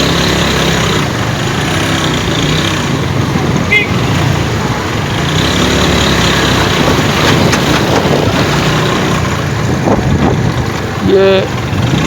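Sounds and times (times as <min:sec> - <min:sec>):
road noise: 0:00.0 - 0:12.0
vehicle engine running: 0:00.0 - 0:12.0
wind buffeting microphone: 0:00.0 - 0:12.0.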